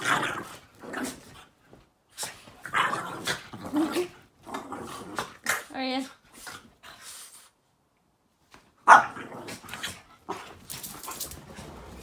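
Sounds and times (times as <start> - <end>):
dogs play noises: 0.0 - 12.0.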